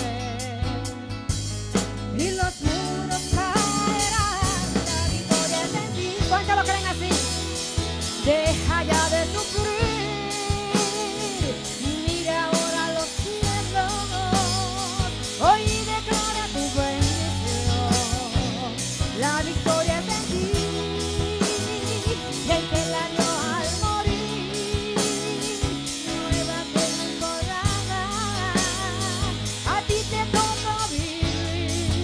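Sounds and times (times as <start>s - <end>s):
drum kit: 0.0s - 32.0s
live praise band playing: 0.0s - 32.0s
wavering melodic lead line: 0.0s - 32.0s.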